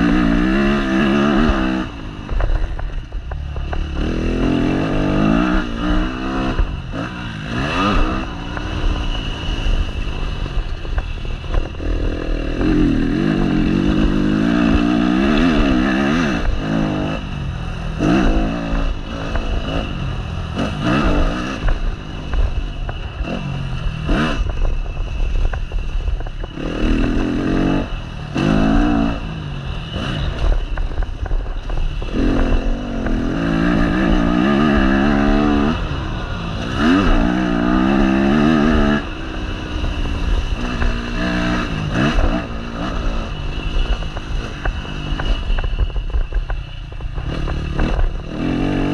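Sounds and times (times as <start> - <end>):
motocross bike engine revving: 0.0 - 24.6, 26.5 - 31.0, 31.6 - 45.7, 46.8 - 48.9.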